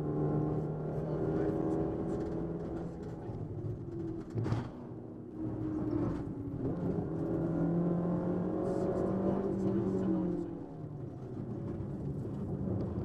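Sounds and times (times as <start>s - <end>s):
rally car engine from cabin: 0.0s - 13.0s.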